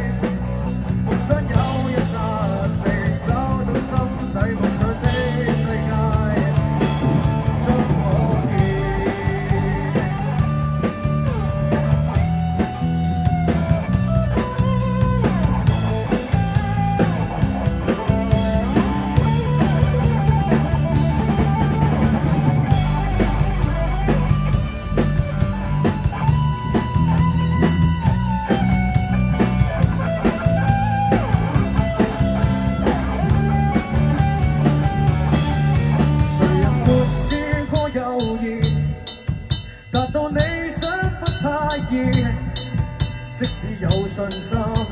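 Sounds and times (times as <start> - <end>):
bass guitar: 0.0 - 44.9
drum kit: 0.0 - 44.9
electric guitar lead: 0.0 - 44.9.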